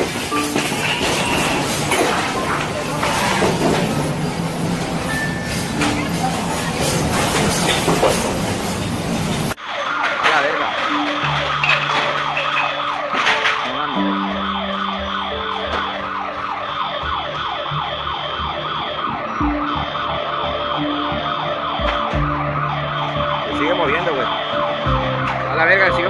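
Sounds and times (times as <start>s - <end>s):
steady alarm tones: 0.0s - 26.0s.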